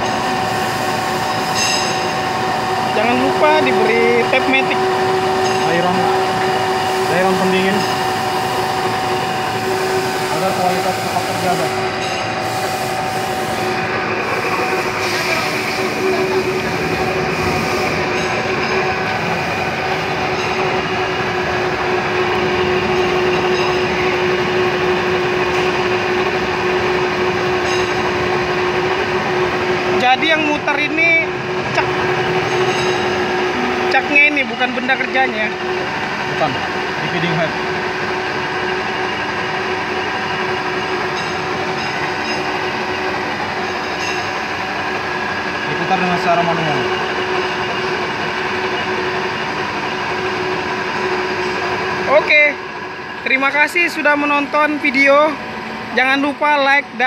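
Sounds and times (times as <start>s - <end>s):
milling machine cutting metal: 0.0s - 57.0s.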